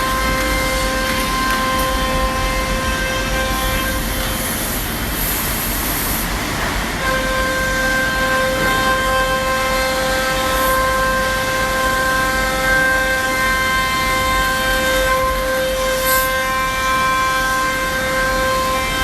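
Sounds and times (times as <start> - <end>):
bit cutting plywood: 0.0 - 19.0
router spindle high whine: 0.0 - 19.0.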